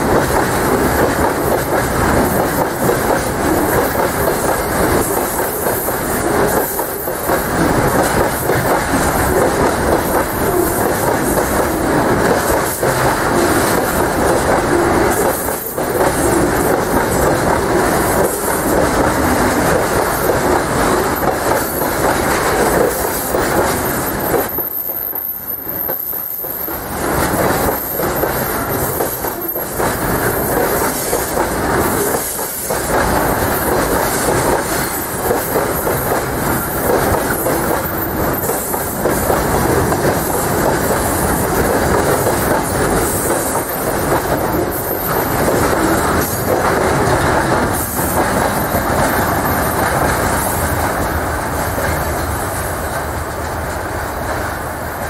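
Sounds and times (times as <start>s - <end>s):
wheels clicking over rail joints: 0.0s - 24.8s, 25.6s - 55.0s
freight train wheels rumbling: 0.0s - 55.0s.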